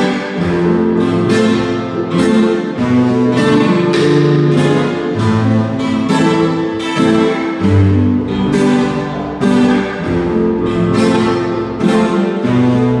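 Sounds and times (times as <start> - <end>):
acoustic guitars strummed: 0.0 - 13.0
electronic keyboard chords: 0.0 - 13.0.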